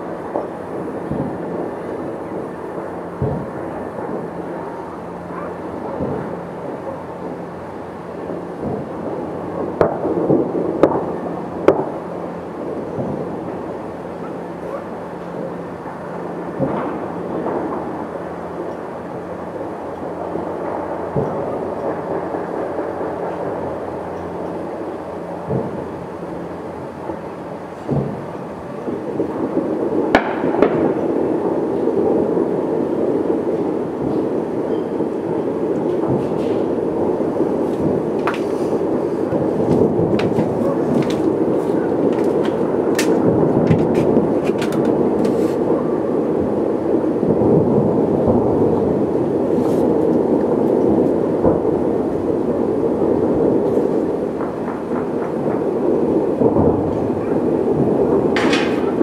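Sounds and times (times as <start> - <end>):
distant fireworks rumble: 0.0 - 59.0
firework cracks and bangs: 0.0 - 59.0.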